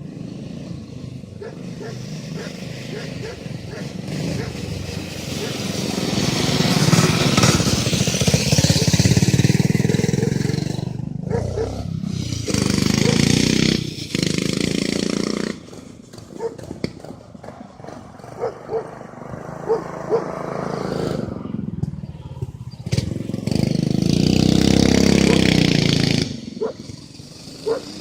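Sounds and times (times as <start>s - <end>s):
small engine revving: 0.0s - 28.0s.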